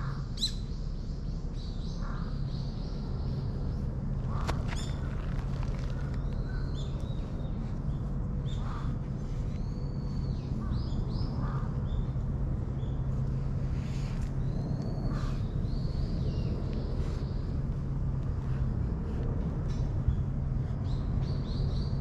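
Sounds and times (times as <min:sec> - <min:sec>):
lower bird calls: 0:00.0 - 0:18.7
steady low hum: 0:00.0 - 0:22.0.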